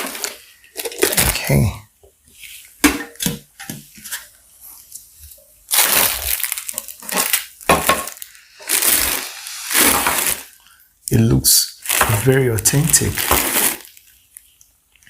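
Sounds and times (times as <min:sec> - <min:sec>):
crinkly rustling and scraping: 0:00.0 - 0:02.8, 0:03.8 - 0:10.6, 0:11.2 - 0:15.0.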